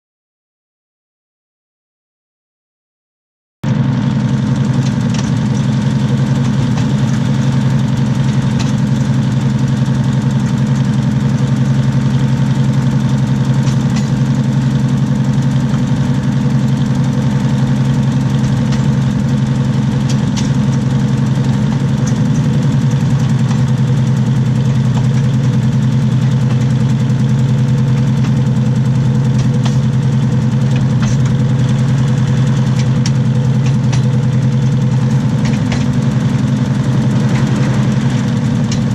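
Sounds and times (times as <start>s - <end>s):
diesel railcar engine drone: 3.7s - 38.9s
wheels ticking on rails: 3.8s - 38.9s.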